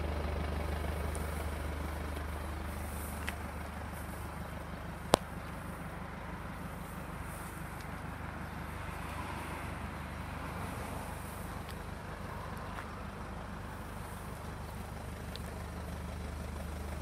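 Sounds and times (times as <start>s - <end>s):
diesel engine idling: 0.0s - 17.0s
traffic noise: 0.0s - 17.0s.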